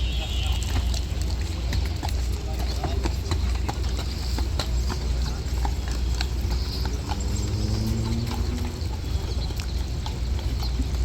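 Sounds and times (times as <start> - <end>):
horse hooves on pavement: 0.0 - 11.0.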